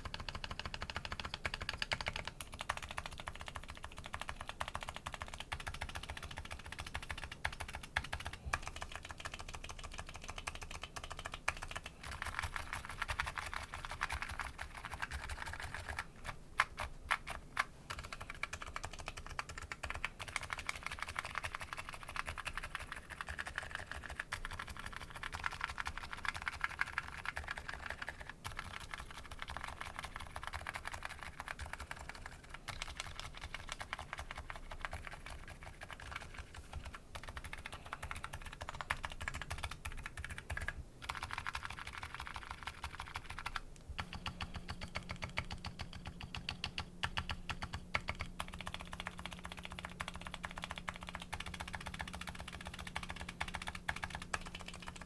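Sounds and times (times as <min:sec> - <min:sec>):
faint low hum: 0:00.0 - 0:55.0
fast keyboard typing: 0:00.0 - 0:55.0.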